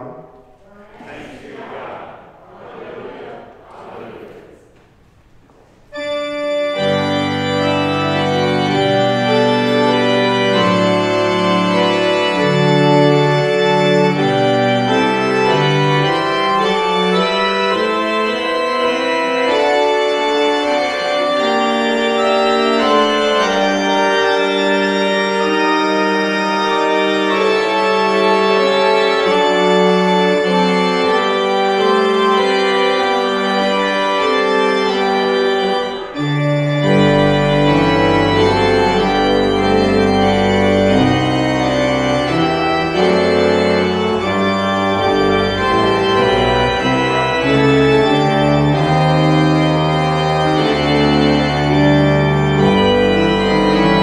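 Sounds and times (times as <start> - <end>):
church organ chords: 5.2 - 54.0.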